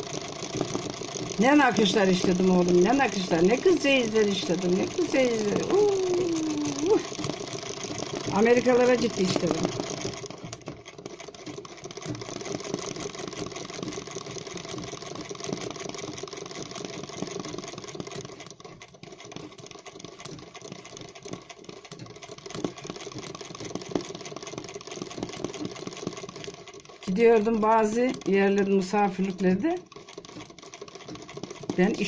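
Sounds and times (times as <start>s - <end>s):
sewing machine running: 0.0s - 32.0s.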